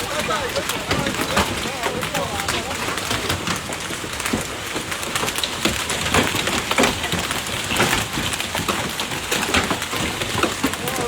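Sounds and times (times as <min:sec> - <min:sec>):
heavy rain on hard surfaces: 0:00.0 - 0:11.0.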